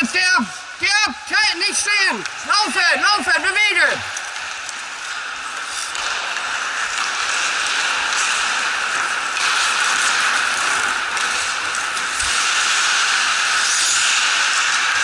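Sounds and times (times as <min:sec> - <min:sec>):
skates scraping on ice: 0:00.0 - 0:15.0.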